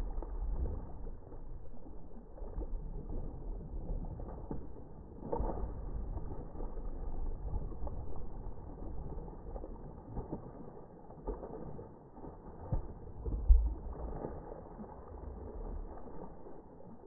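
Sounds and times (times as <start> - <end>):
fish splashing in water: 0.0 - 17.0
low rumble: 0.0 - 17.0.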